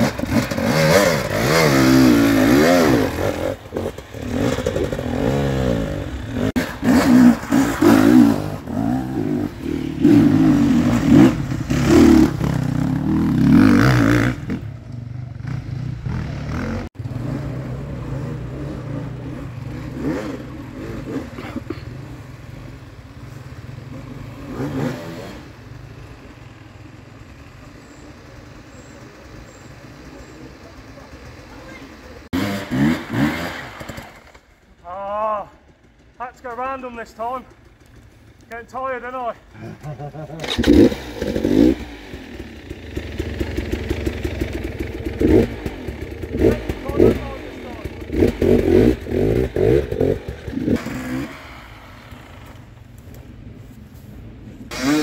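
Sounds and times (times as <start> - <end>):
dirt bike engine revving: 0.0 - 36.1, 37.1 - 53.3, 54.7 - 55.0.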